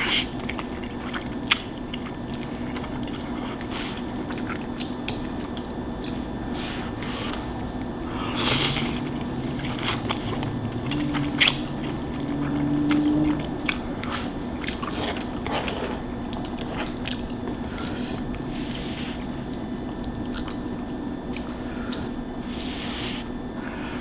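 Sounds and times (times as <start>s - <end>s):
chewing and biting: 0.0s - 22.8s
wet squishy mouth noises: 0.0s - 22.8s.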